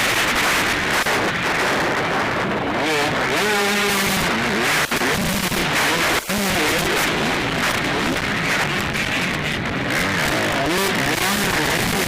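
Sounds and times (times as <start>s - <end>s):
distorted noise rush: 0.0s - 12.0s
motorbike engines revving: 0.0s - 12.0s.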